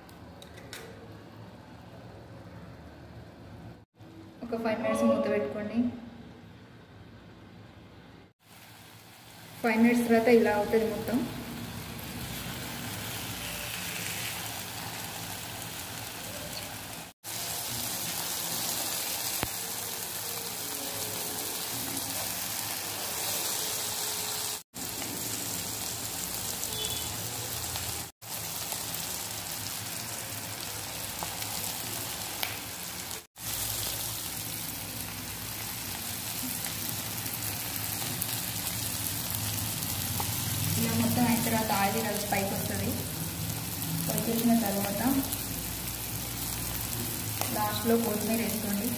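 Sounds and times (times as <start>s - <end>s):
food sizzling in a pan: 8.4s - 48.9s.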